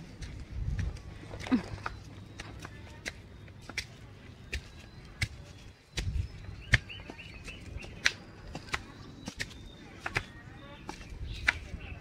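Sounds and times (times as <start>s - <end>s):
flip-flop footsteps on concrete stairs: 0.0s - 11.7s
bird chirping: 0.0s - 12.0s.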